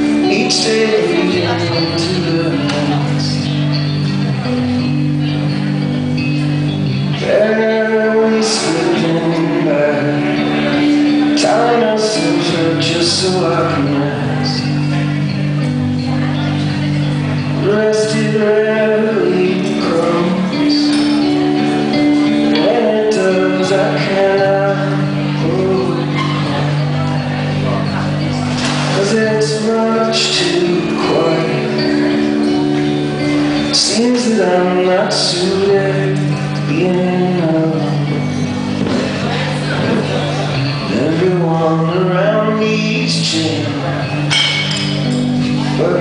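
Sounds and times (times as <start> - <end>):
electric guitar: 0.0 - 46.0
man singing: 0.0 - 46.0.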